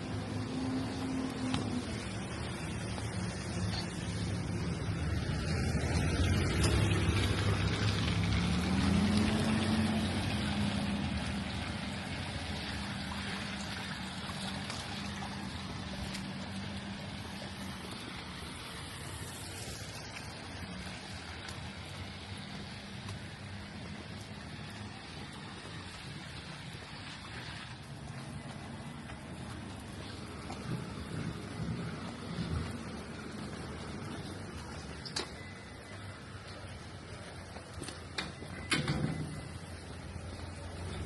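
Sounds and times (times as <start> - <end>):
rain hiss: 0.0 - 35.1
vehicle engine hum: 0.0 - 41.0.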